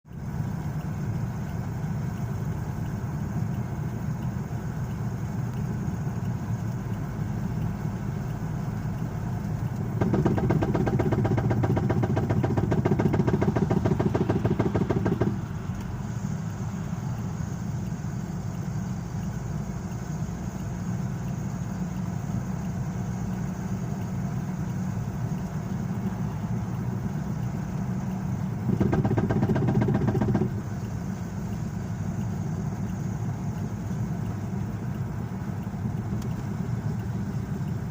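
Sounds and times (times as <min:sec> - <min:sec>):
car road noise: 0:00.0 - 0:37.9
rapid knocking from a wheel: 0:00.1 - 0:17.3, 0:22.6 - 0:37.9.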